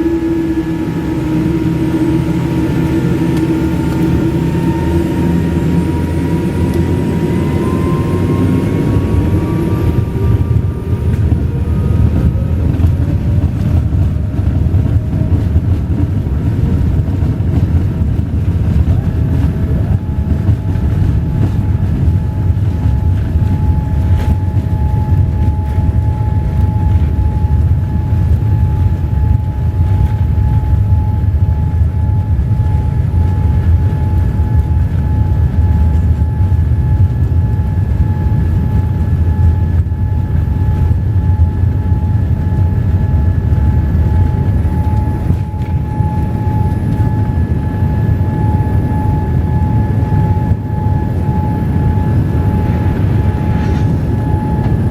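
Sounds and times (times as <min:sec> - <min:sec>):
airplane cabin engine rumble: 0:00.0 - 0:54.9
steady whine: 0:00.0 - 0:54.9.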